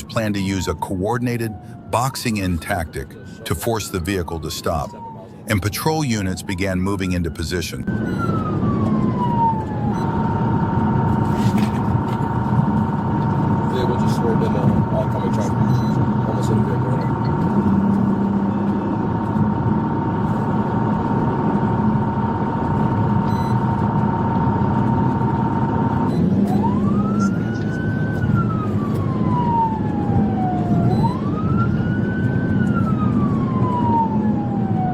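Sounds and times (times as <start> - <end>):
heavy vehicle and road noise: 0.0 - 34.9
police siren wailing: 0.0 - 34.9.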